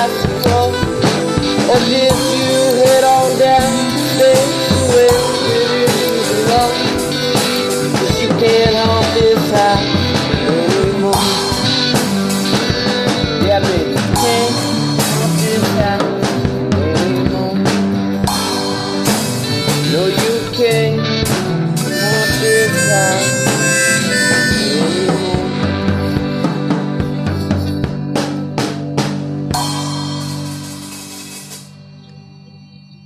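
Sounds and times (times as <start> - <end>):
harmonica solo with bent notes: 0.0 - 29.0
blues-rock band backing: 0.0 - 32.4.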